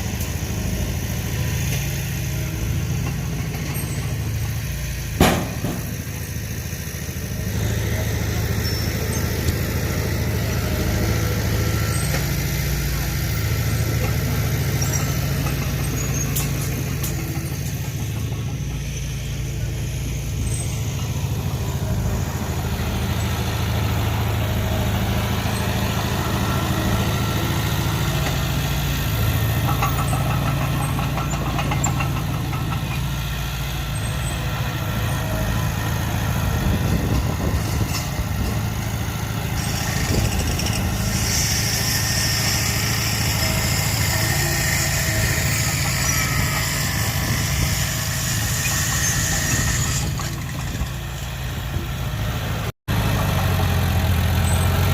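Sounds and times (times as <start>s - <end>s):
diesel engine rumbling: 0.0s - 54.9s.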